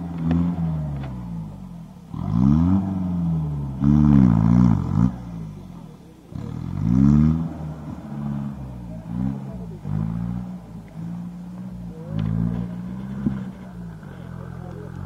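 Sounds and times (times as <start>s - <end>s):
jeep engine revving: 0.0s - 15.0s.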